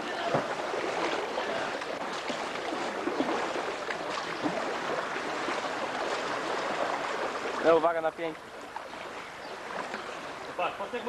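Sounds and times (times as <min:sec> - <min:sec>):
paddles splashing: 0:00.0 - 0:11.0
water sloshing: 0:00.0 - 0:11.0.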